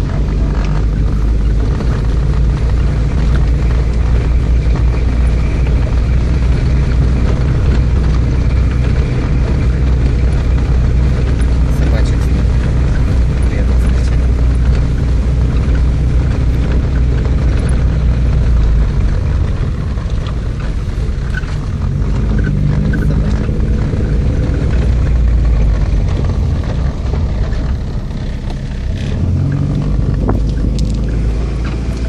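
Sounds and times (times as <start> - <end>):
car engine: 0.0 - 32.0
tyres rumbling on cobblestones: 0.0 - 32.0.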